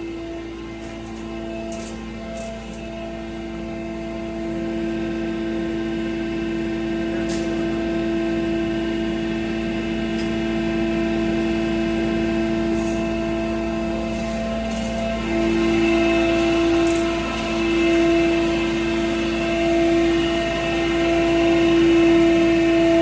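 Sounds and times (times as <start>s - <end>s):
feed pulverizer humming: 0.0s - 23.0s.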